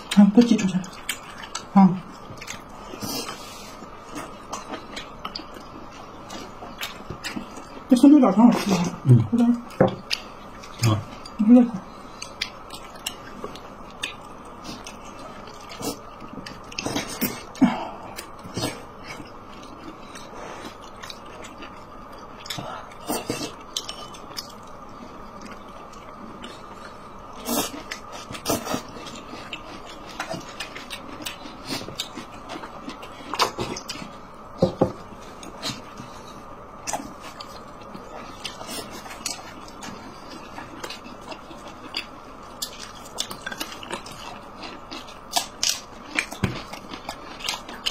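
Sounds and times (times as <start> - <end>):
chewing with mouth smacks: 0.0 - 7.8, 8.6 - 47.9
faint background hum: 0.0 - 47.9.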